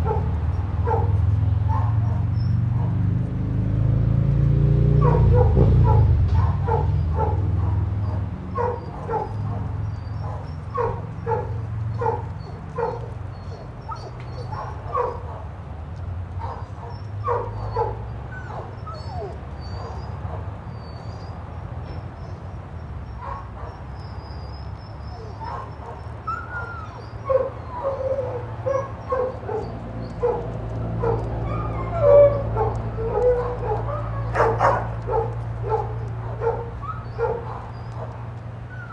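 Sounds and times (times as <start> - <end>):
dog barking: 0.0 - 3.0, 5.0 - 15.6, 16.4 - 20.5, 23.2 - 23.8, 25.2 - 38.2.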